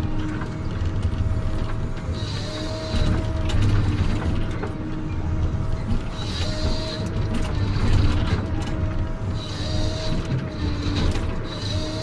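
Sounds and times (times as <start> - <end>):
machine engine and hydraulics drone: 0.0 - 12.0.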